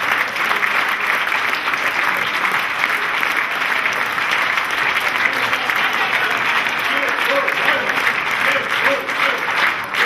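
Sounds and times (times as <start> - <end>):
applause: 0.0 - 10.0.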